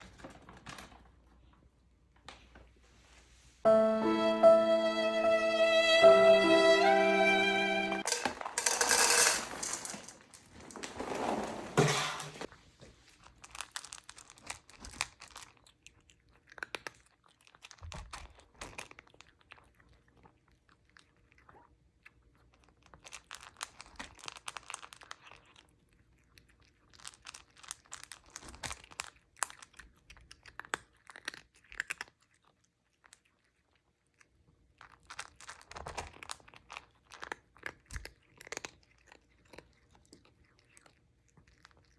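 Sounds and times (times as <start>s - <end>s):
cat chewing and crunching food: 0.0s - 3.6s, 9.8s - 41.9s.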